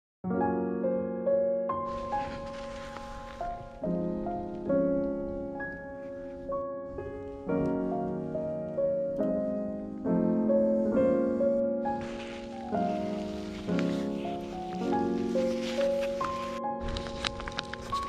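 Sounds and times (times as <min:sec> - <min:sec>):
gentle piano melody: 0:00.2 - 0:18.0.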